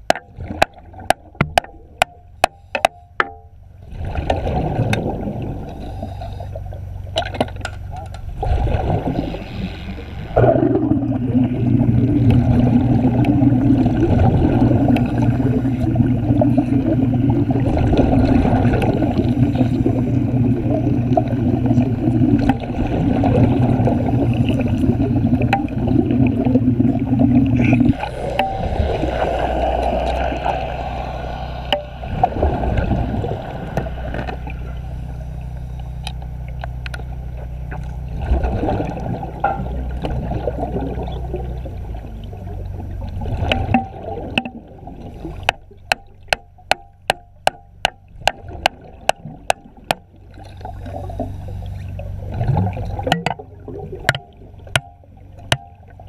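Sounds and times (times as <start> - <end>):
underwater rumbling and bubbling: 0.0 - 56.0
underwater welding crackling and bubbling: 0.0 - 56.0.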